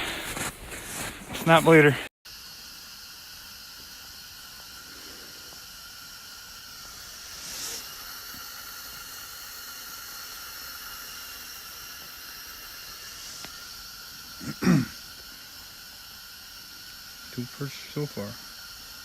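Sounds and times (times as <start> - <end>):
tent heater hissing: 0.0 - 19.0.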